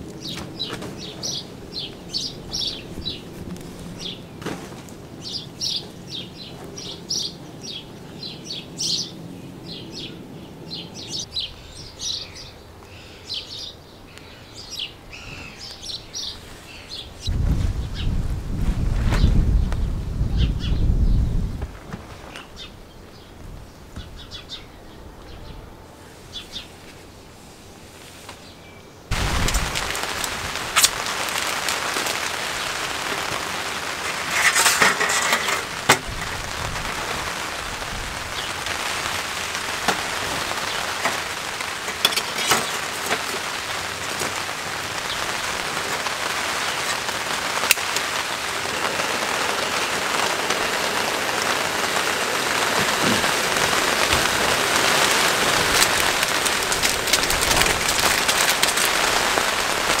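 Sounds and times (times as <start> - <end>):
rain on tarp: 0.0 - 9.0, 15.6 - 24.0, 29.1 - 60.0.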